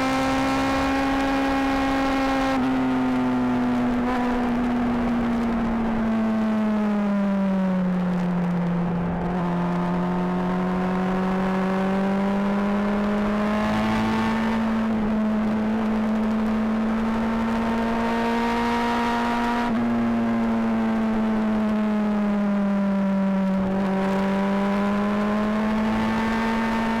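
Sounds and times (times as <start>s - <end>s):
motorcycle engine revving: 0.0s - 7.6s, 8.5s - 27.0s.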